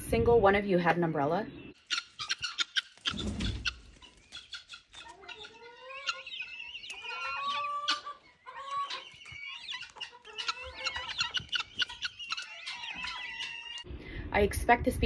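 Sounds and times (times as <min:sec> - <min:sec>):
guineafowl calling: 0:01.6 - 0:13.9.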